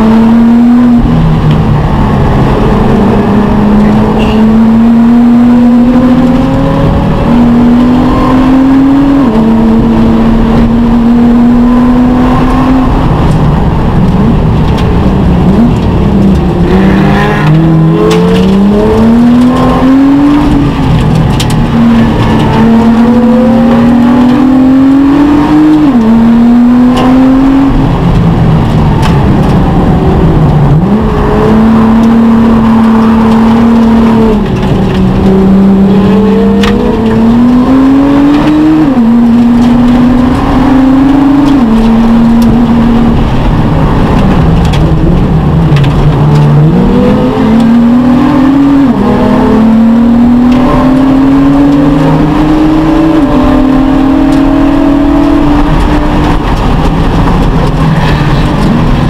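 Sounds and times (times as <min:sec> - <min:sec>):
race car engine revving hard: 0:00.0 - 0:59.0.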